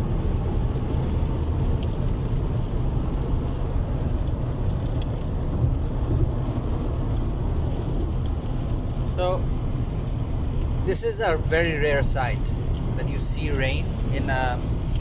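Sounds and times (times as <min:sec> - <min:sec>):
car driving on wet road: 0:00.0 - 0:15.0
rain falling on car: 0:00.0 - 0:15.0.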